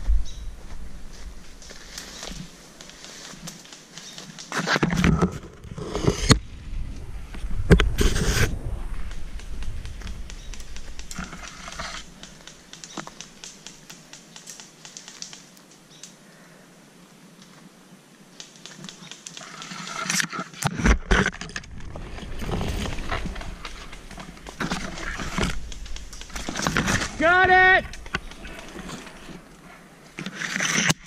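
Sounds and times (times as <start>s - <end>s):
twigs crackling underfoot: 0.0s - 5.7s, 8.6s - 16.2s, 17.4s - 31.0s
leaves and branches brushing: 0.0s - 16.1s, 17.3s - 31.0s.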